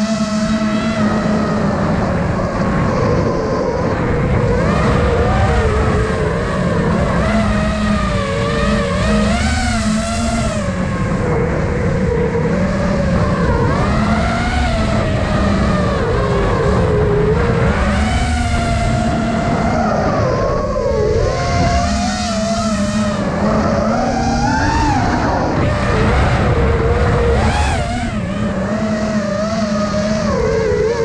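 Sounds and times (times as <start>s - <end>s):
drone propellers whining: 0.0s - 31.0s
wind rush: 0.0s - 31.0s.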